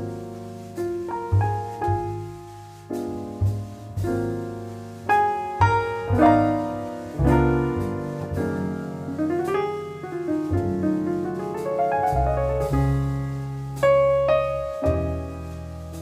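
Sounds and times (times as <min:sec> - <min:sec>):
jazz piano: 0:00.0 - 0:16.0
low bass notes: 0:00.0 - 0:16.0.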